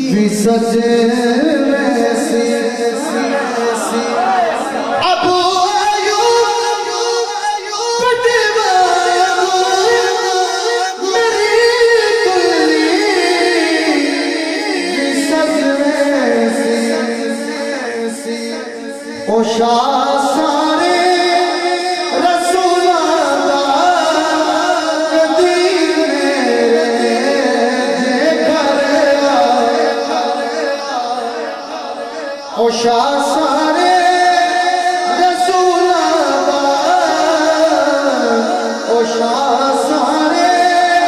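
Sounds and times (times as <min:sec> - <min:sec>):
man singing into a microphone: 0:00.0 - 0:41.0.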